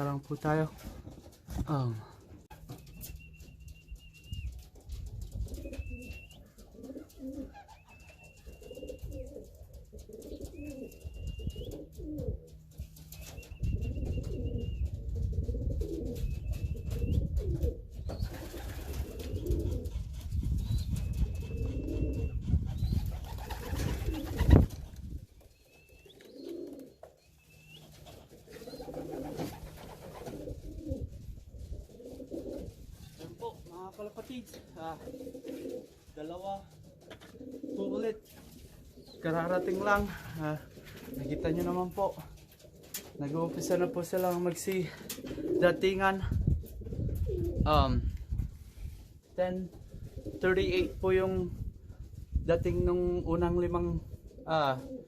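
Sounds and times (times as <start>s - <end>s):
pigeons cooing: 2.0s - 33.7s, 34.5s - 36.1s, 36.7s - 47.6s, 49.8s - 51.0s, 54.1s - 55.0s.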